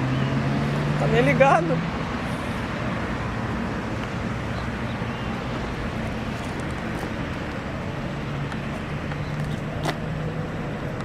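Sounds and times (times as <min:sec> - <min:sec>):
bus engine running: 0:00.0 - 0:11.0
road noise: 0:00.0 - 0:11.0.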